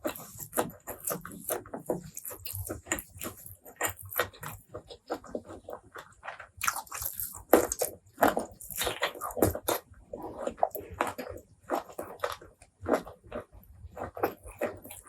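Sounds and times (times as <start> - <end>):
chewing and biting: 0.0 - 15.0.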